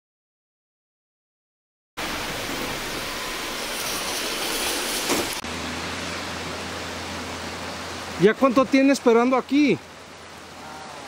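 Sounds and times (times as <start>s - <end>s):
heavy rain hissing: 2.0s - 11.0s.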